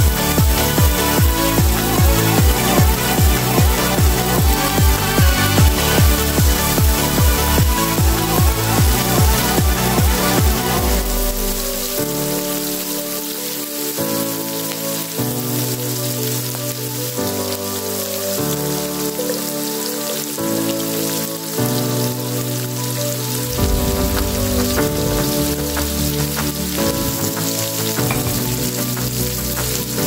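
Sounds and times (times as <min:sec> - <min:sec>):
background music of held chords: 0:00.0 - 0:30.0
food sizzling in oil: 0:00.0 - 0:30.0.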